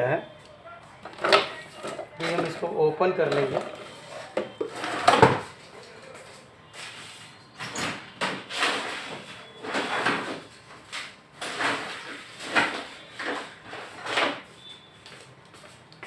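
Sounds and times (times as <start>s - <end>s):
scraping and rustling handling noises: 0.9s - 7.4s, 8.4s - 15.9s.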